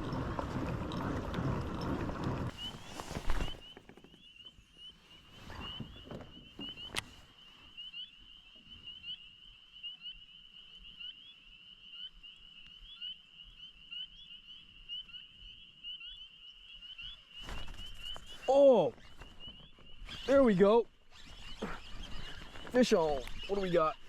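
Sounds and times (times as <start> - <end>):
chorus of frogs peeping: 0.0 - 24.0.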